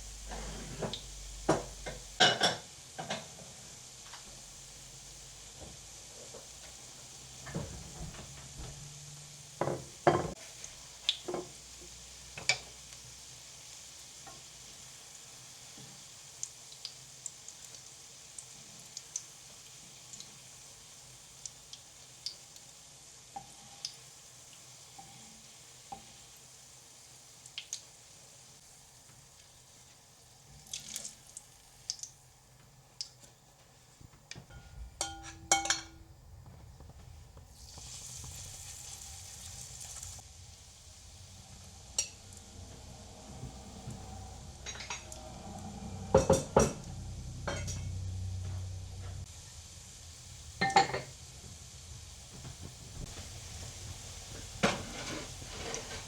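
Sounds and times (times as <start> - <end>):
food sizzling in a frying pan: 0.0 - 33.3, 34.5 - 56.0.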